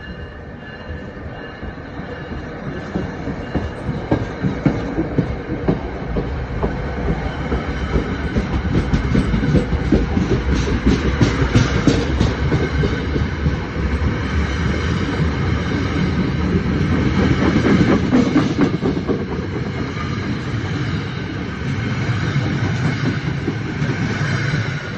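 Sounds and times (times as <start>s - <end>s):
electric train rolling past: 0.0s - 24.9s.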